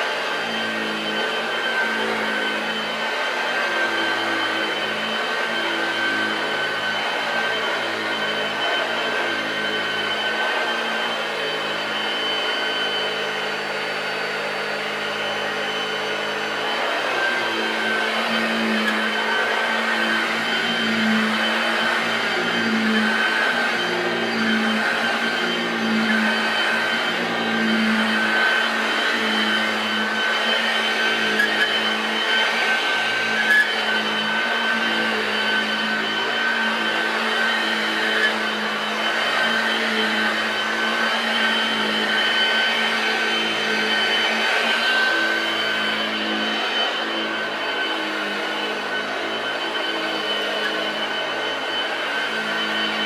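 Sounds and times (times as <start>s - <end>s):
vacuum cleaner motor whine: 0.0s - 53.0s.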